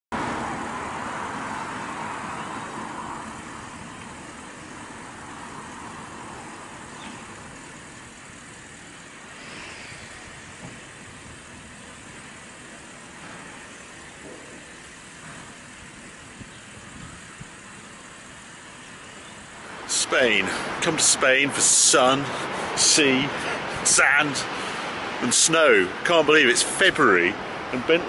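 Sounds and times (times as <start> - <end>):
convertible roof mechanism hum: 0.1 - 28.0.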